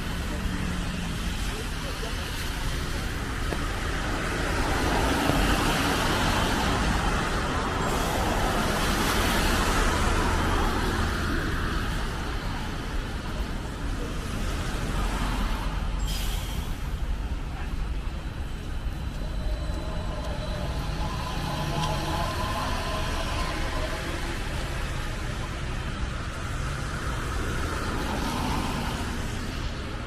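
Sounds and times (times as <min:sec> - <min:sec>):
low rumble of engines: 0:00.0 - 0:30.0.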